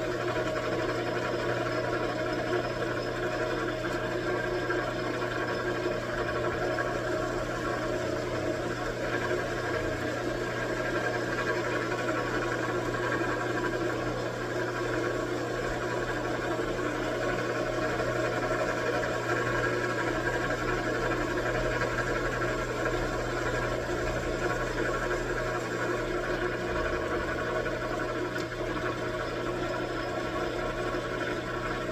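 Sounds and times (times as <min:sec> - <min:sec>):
lathe motor hum: 0:00.0 - 0:31.9.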